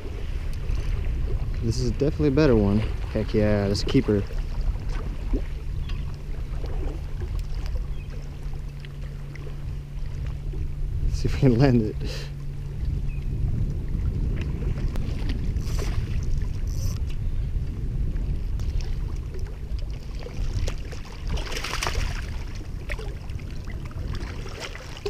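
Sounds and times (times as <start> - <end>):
steady low rumble: 0.0 - 25.0
water splashing and sloshing: 0.0 - 25.0.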